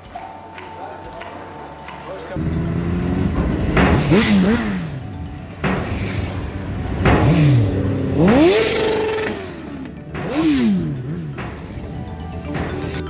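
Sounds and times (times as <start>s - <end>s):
motorcycle engines revving: 2.4s - 13.0s.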